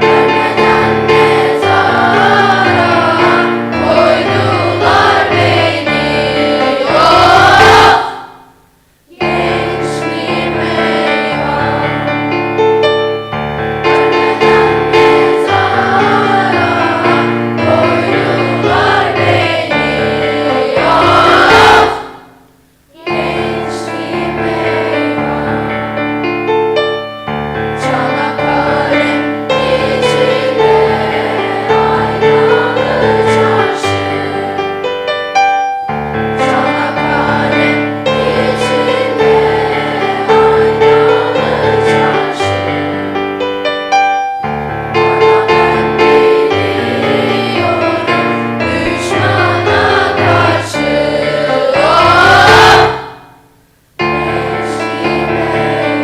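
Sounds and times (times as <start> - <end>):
keyboard chords: 0.0 - 8.5, 9.1 - 56.0
choir singing: 0.0 - 35.2, 36.1 - 43.7, 44.4 - 56.0.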